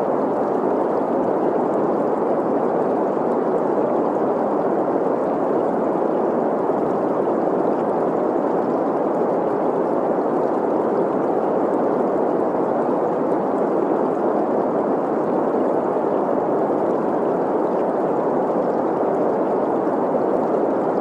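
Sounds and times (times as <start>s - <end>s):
flowing stream: 0.0s - 21.0s.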